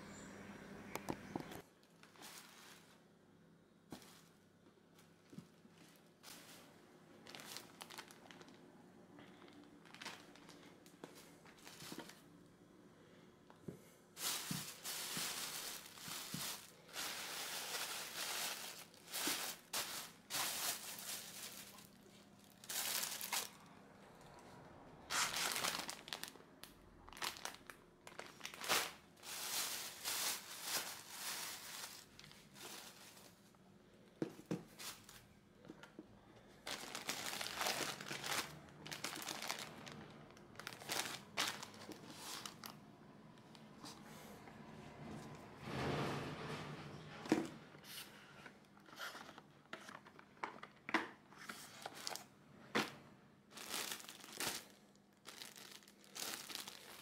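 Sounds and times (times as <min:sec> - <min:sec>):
plastic bags rustling: 0:01.4 - 0:03.2, 0:03.8 - 0:12.5, 0:14.1 - 0:23.9, 0:25.0 - 0:42.9, 0:48.9 - 0:57.0.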